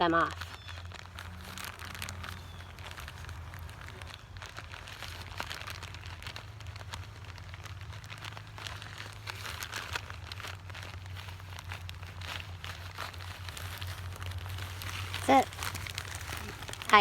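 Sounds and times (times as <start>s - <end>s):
thin plastic sheet crinkling: 0.0s - 17.0s.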